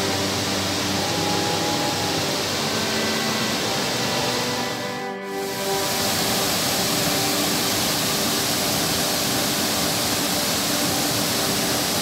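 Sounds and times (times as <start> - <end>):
waterfall rushing into a pool: 0.0 - 12.0.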